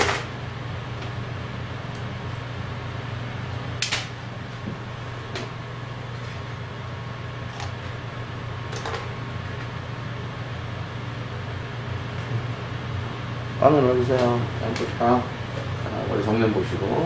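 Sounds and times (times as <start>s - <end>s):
low hum of room equipment: 0.0s - 17.0s.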